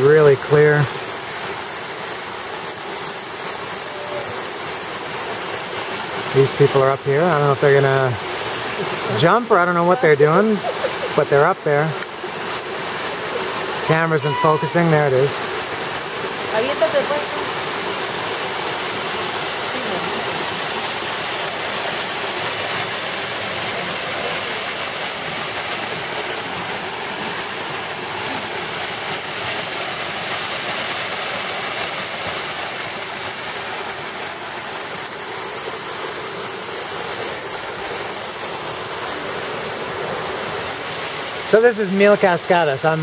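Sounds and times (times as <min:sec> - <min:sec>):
waterfall rushing and splashing: 0:00.0 - 0:43.0.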